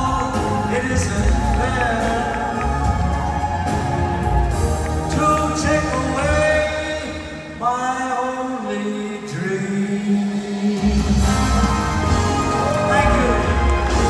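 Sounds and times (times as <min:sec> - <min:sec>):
live band playing pop ballad: 0:00.0 - 0:07.6, 0:10.1 - 0:14.0.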